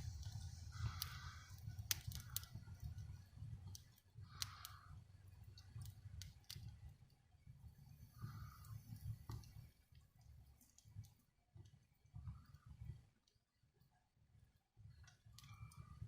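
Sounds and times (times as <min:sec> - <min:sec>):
fire crackling and popping: 0:00.0 - 0:13.8, 0:14.8 - 0:16.0.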